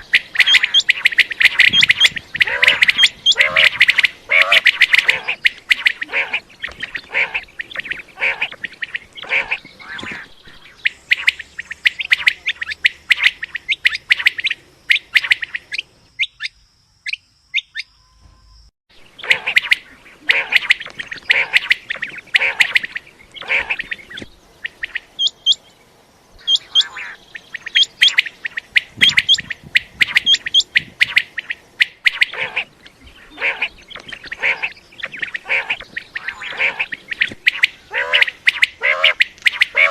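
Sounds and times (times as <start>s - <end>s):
quail calling: 0.0s - 16.5s, 19.1s - 25.6s, 26.4s - 39.9s.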